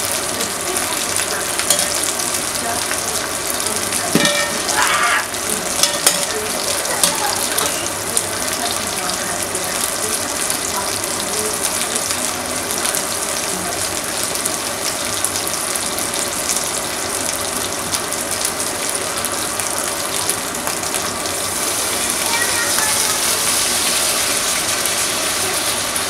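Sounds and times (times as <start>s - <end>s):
meat sizzling in a roasting pan: 0.0s - 26.0s.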